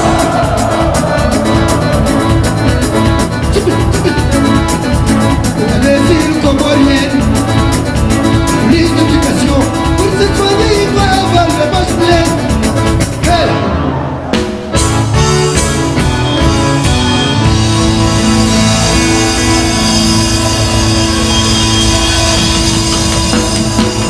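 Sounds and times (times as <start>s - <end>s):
live band music: 0.0s - 24.0s
wandering melodic lead line: 0.0s - 24.0s.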